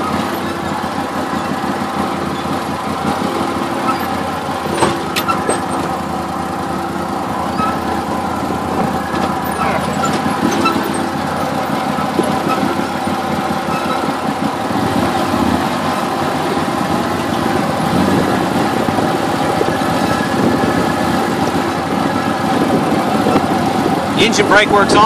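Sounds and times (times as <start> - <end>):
vehicle engine braking: 0.0 - 25.0.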